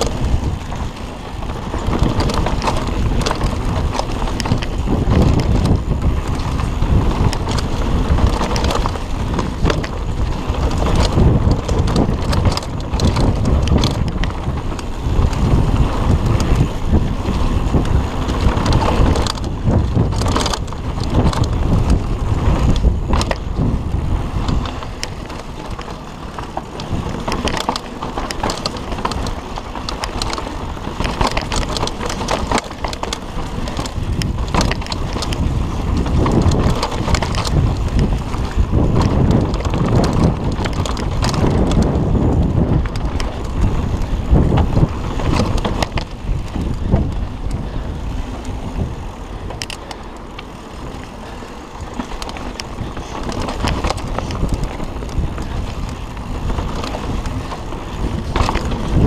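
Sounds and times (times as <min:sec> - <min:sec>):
bike rattling and knocking: 0:00.0 - 0:59.0
tyres crunching over dirt: 0:00.0 - 0:59.0
wind noise on microphone: 0:00.0 - 0:59.0.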